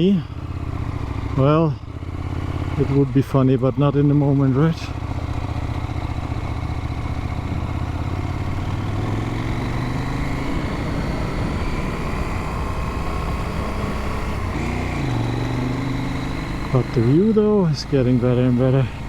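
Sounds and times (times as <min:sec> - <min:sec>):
motorcycle engine running: 0:00.0 - 0:19.0
wind: 0:00.0 - 0:19.0.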